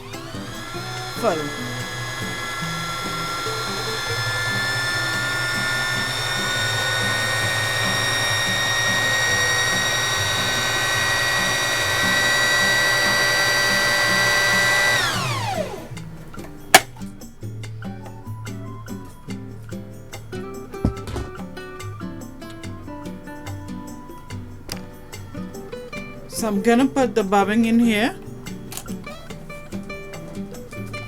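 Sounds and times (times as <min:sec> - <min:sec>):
sewing machine motor whine: 0:00.0 - 0:17.2, 0:23.0 - 0:31.0
background music: 0:00.0 - 0:31.0.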